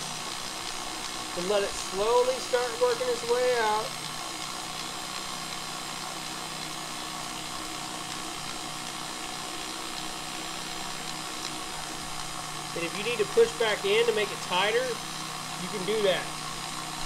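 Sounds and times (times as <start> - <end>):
stand mixer motor humming: 0.0 - 17.0.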